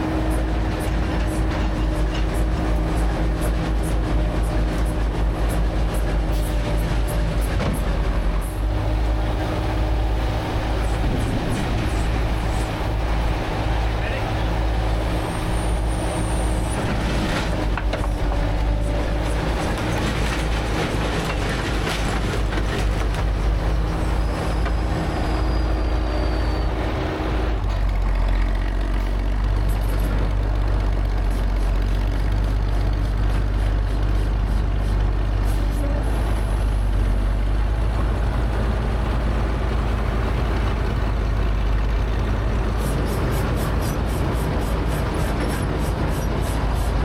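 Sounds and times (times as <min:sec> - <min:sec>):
heavy machine engine running: 0:00.0 - 0:47.0.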